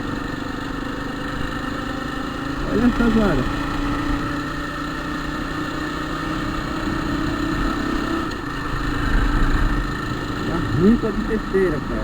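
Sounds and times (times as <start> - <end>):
gearbox droning growl: 0.0 - 12.0
motorcycle engine running: 0.0 - 12.0.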